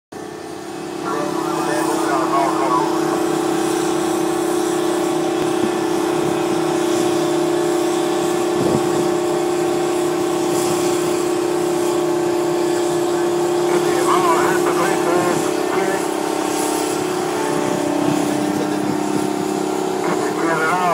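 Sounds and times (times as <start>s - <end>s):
diesel engine droning with whine: 0.1s - 20.9s.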